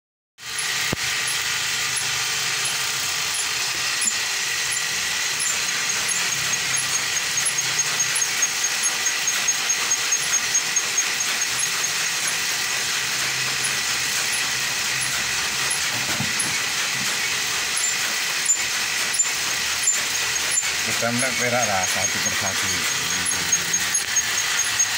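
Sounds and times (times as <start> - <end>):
winding machine whirring: 0.4 - 24.9.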